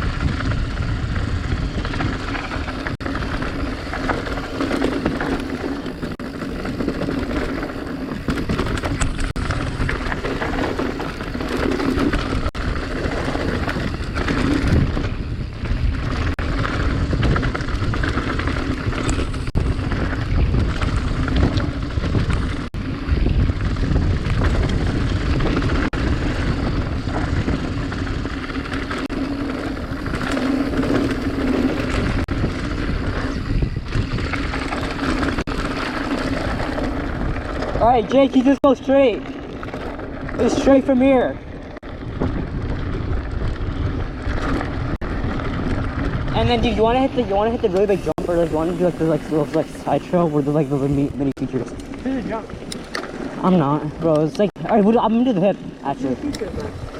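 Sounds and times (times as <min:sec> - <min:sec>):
bike knocks and rattles: 0:00.0 - 0:50.9
wind buffeting microphone: 0:00.0 - 0:56.9.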